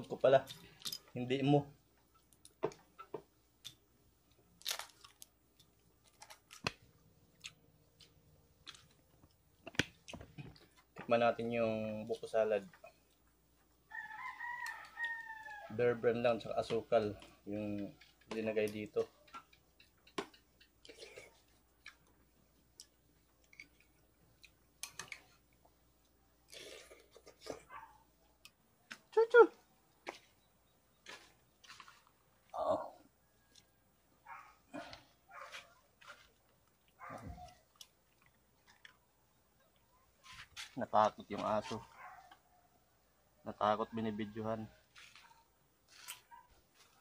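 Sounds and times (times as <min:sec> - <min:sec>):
quiet chewing: 0:02.1 - 0:11.0, 0:12.7 - 0:15.6, 0:17.2 - 0:29.1, 0:29.8 - 0:42.7, 0:44.8 - 0:47.0.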